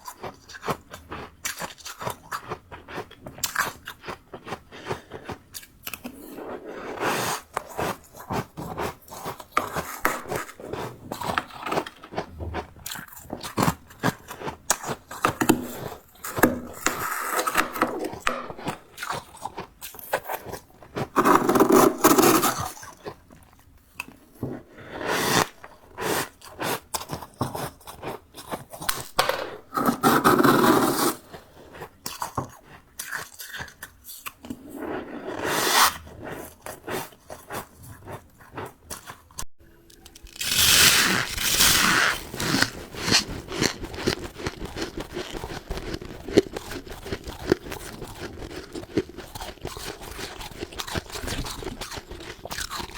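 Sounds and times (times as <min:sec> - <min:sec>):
frost crunching being chewed: 0:00.0 - 0:29.7, 0:30.5 - 0:34.5, 0:36.0 - 0:52.9.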